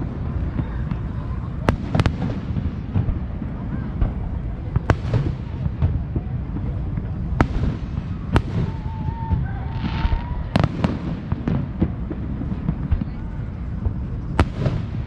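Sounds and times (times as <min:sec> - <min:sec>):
distant firework booms: 0:00.0 - 0:15.0
firework sharp cracks: 0:00.0 - 0:15.0.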